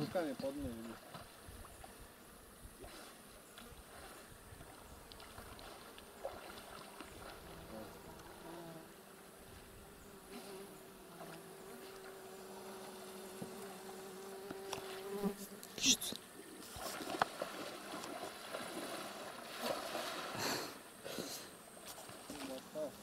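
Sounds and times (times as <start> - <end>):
flying insect buzzing: 0.1 - 23.0.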